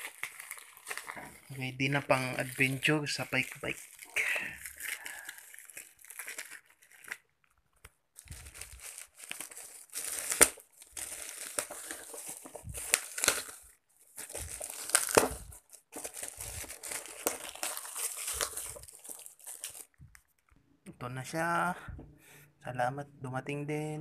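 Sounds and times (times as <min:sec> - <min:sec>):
bubble wrap crinkling and tearing: 0:00.0 - 0:20.5.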